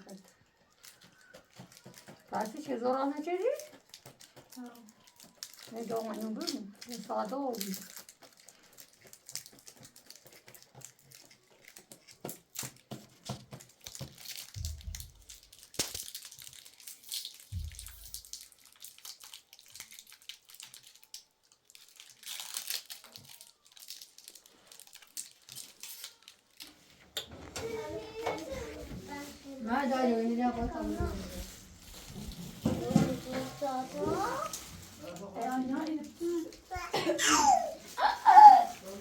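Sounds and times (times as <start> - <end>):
rustling and crinkling: 0.0 - 39.0.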